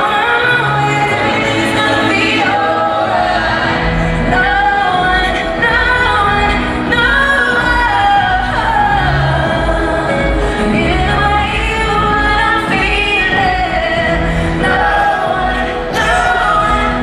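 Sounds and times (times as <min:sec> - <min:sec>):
live pop concert music: 0:00.0 - 0:17.0.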